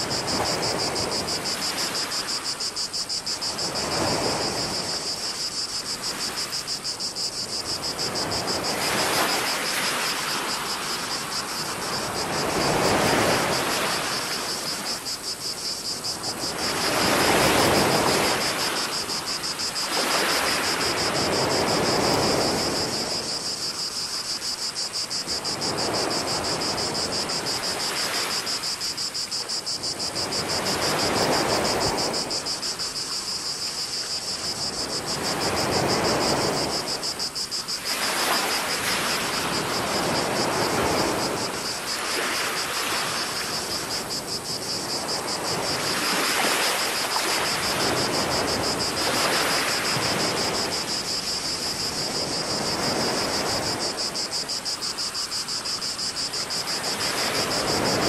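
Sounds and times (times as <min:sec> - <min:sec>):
cicadas chorus: 0:00.0 - 0:58.0
small waves washing in: 0:00.0 - 0:58.0.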